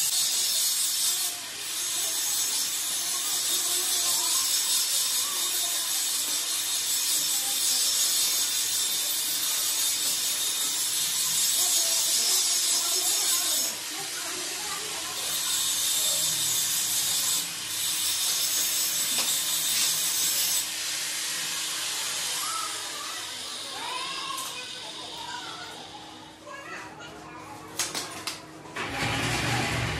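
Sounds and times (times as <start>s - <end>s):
arc welding crackling and sizzling: 0.0s - 26.4s.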